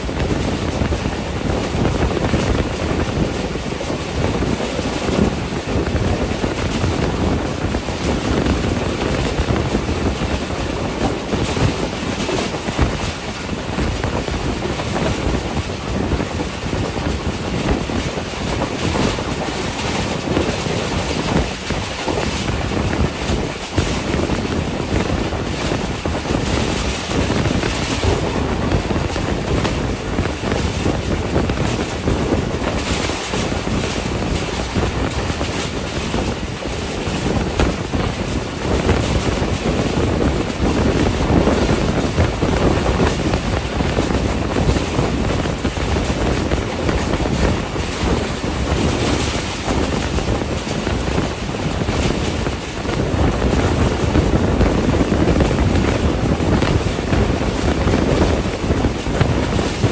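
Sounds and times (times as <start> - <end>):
train wheels rolling on rails: 0.0 - 59.9
wind buffeting microphone: 0.0 - 59.9.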